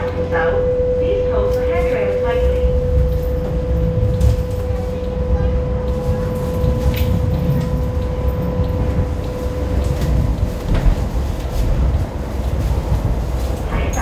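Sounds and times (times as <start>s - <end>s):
low rumble of train wheels: 0.0s - 14.0s
steady whine: 0.0s - 14.0s.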